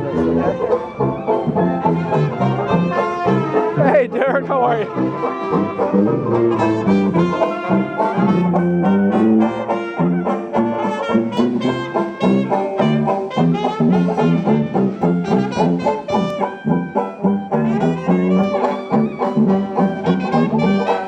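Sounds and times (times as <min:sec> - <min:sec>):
brass band playing jazz tune: 0:00.0 - 0:21.0.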